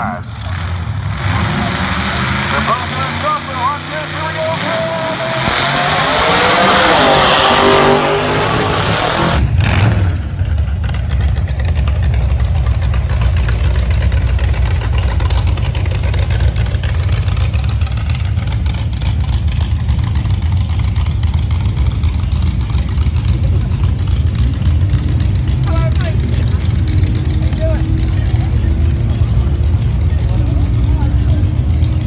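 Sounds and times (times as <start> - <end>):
big engine idling: 0.0 - 32.0
drag car engine revving: 0.0 - 32.0.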